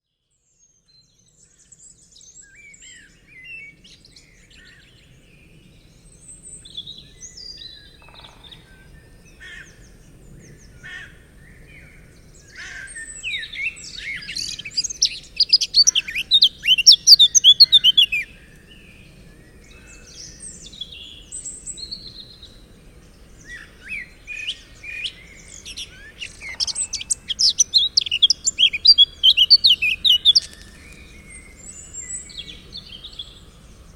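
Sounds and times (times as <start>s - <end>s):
birds singing and calling: 1.3s - 33.9s.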